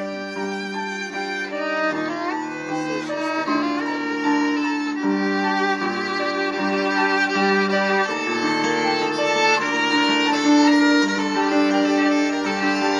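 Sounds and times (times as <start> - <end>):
violin melody: 0.0 - 12.9.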